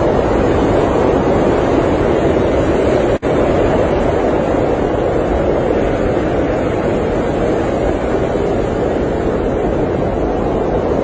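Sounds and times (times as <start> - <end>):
blizzard wind blowing: 0.0 - 11.0.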